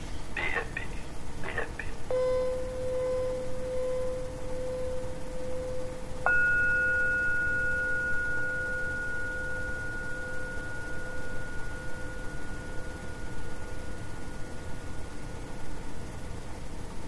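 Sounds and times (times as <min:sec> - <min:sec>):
low steady tone: 0:01.5 - 0:17.0
bell ringing: 0:02.1 - 0:16.0.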